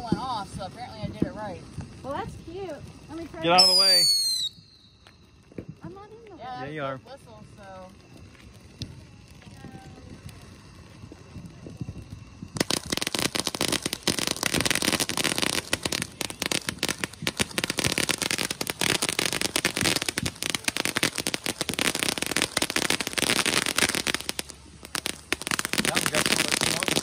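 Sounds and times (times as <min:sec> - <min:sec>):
firework fountain hissing and crackling: 0:00.0 - 0:27.0.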